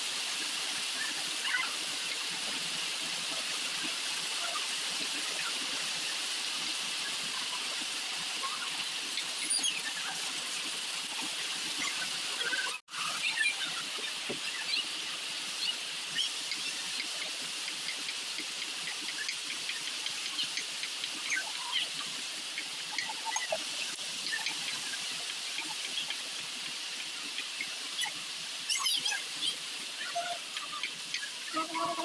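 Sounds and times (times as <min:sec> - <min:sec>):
steady outdoor hiss: 0:00.0 - 0:32.0.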